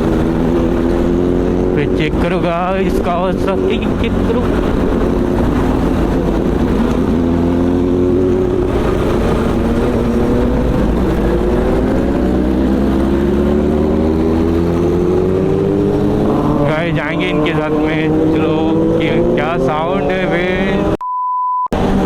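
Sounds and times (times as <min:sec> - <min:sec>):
vehicle engine accelerating: 0:00.0 - 0:21.0, 0:21.7 - 0:22.0
wind and road rush: 0:00.0 - 0:21.0, 0:21.7 - 0:22.0.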